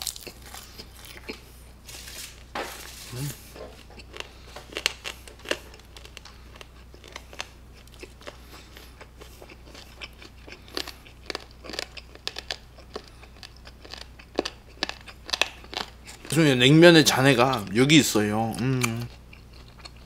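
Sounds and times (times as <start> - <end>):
wet crunchy chewing: 0.0 - 16.5, 18.5 - 20.0.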